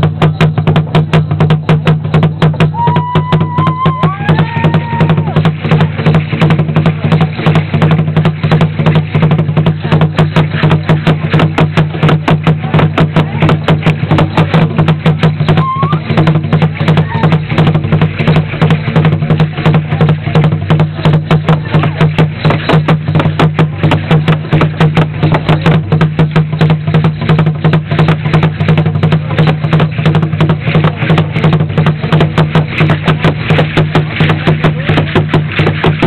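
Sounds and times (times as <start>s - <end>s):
large drum beaten with sticks: 0.0s - 36.0s.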